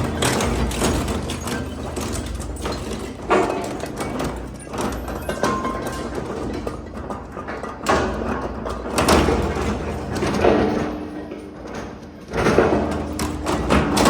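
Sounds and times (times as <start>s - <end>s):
metal knocks and clanks: 0.0s - 14.0s.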